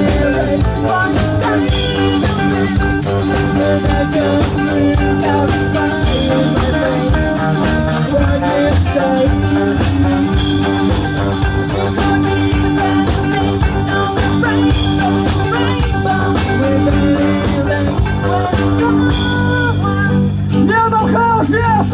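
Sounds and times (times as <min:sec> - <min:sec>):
live rock band playing: 0:00.0 - 0:21.9.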